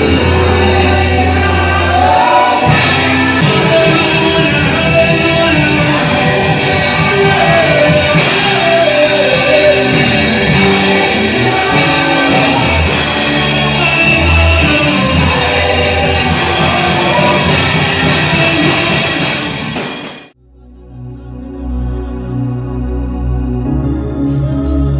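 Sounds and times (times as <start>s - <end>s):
gospel singing with instruments: 0.0s - 24.9s.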